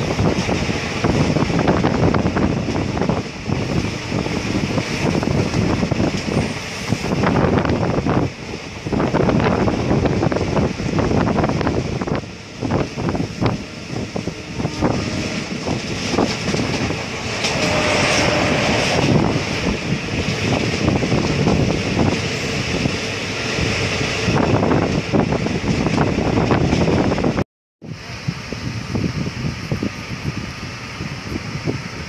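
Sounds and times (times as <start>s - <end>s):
train rumbling along track: 0.0s - 32.0s.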